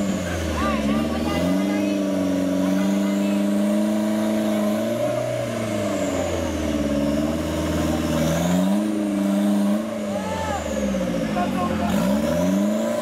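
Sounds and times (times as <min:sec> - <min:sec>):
off-road vehicle engine straining: 0:00.0 - 0:13.0.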